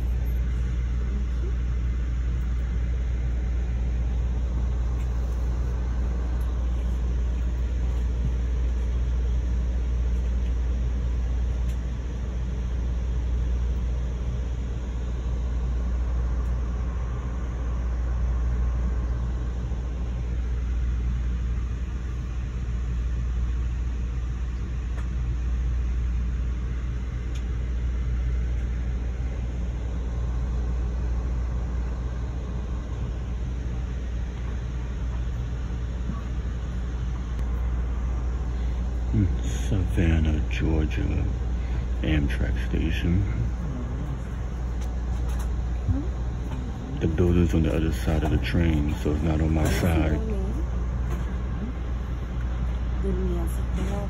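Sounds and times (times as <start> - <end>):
train rumble inside passenger car: 0.0 - 54.0.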